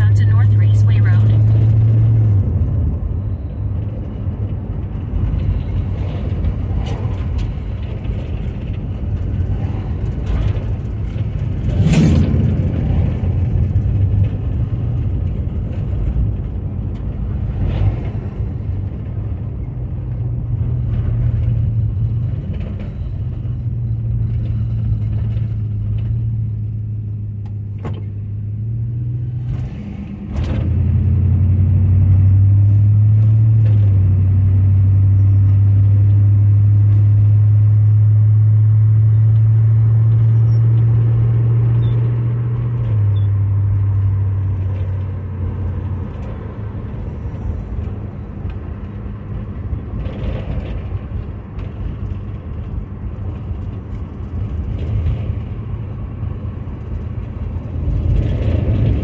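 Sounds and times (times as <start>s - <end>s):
car engine running: 0.0s - 59.0s
tyre and road noise: 0.0s - 59.0s.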